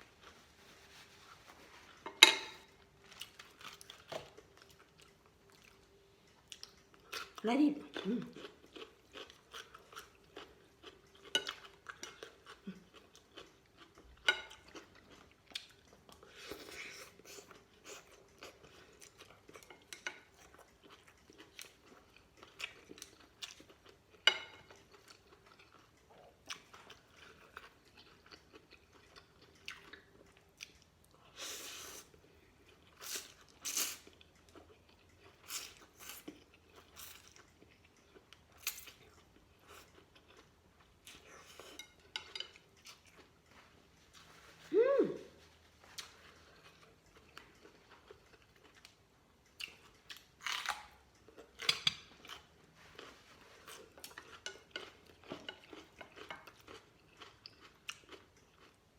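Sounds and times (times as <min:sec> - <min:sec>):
person chewing noodles: 0:00.0 - 0:44.7, 0:45.3 - 0:58.9.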